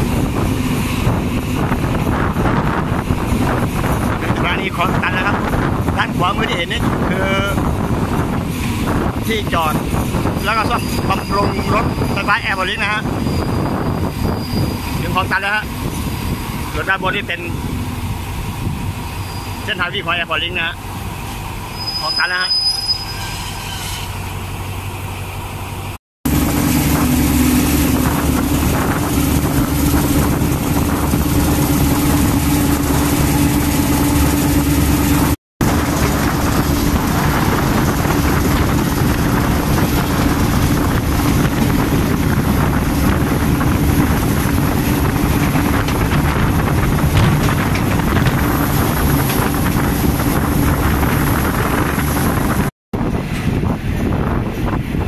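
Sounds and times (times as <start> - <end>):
train engine hum: 0.0 - 55.0
train rolling on track: 0.0 - 55.0.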